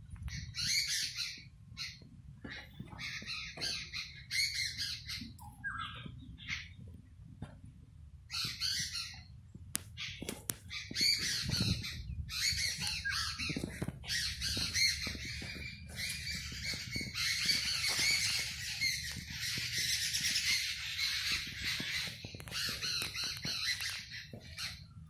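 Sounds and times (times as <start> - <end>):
birds chirping in chorus: 0.3 - 6.8, 8.3 - 25.0.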